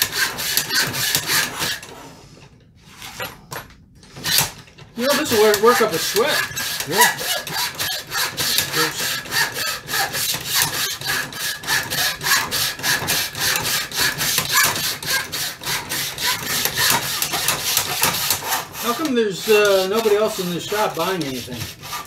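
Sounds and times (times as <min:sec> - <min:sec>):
hand saw cutting wood: 0:00.0 - 0:02.2, 0:04.1 - 0:22.0.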